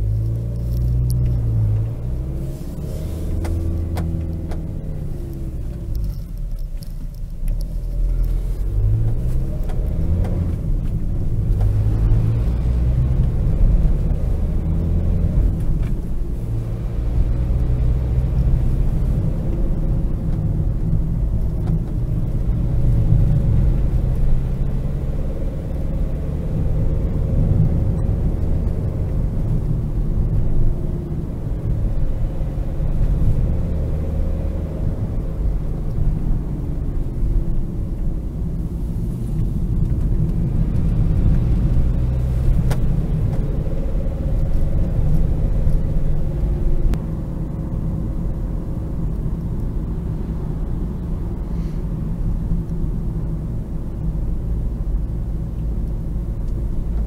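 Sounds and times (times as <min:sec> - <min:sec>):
diesel engine droning: 0:00.0 - 0:57.0
road rumble: 0:00.0 - 0:57.0.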